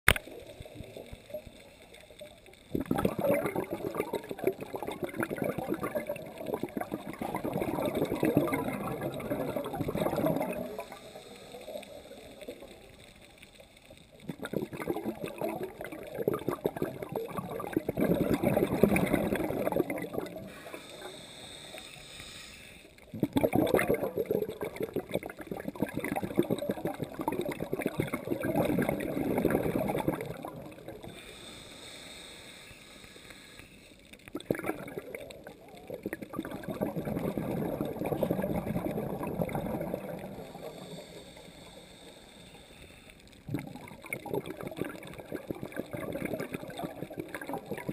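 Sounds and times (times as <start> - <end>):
scuba regulator bubbling underwater: 0.1 - 21.2, 23.0 - 31.6, 34.2 - 41.9, 43.3 - 47.9.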